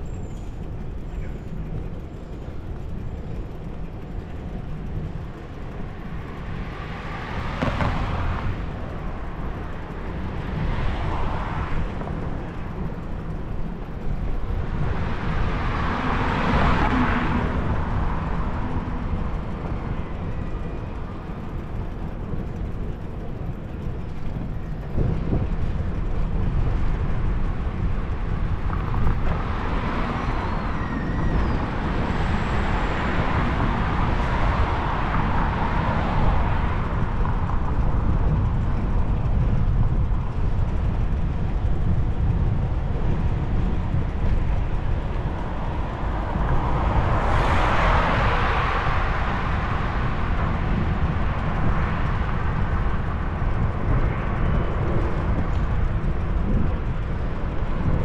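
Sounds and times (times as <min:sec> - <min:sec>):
vehicles passing: 0:00.0 - 0:58.0
wind and road noise: 0:00.0 - 0:58.0.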